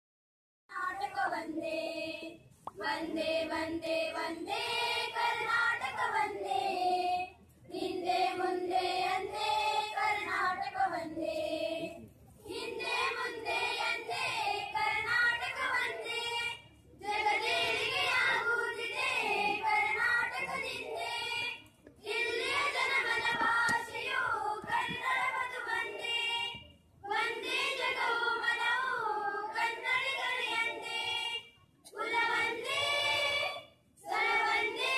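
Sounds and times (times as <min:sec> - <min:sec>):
girls singing in unison: 0:00.7 - 0:34.9.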